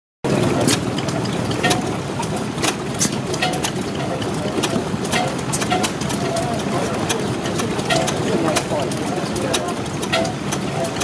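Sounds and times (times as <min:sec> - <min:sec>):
stationary engine clattering: 0:00.2 - 0:11.0
sharp engine clicks: 0:00.3 - 0:11.0.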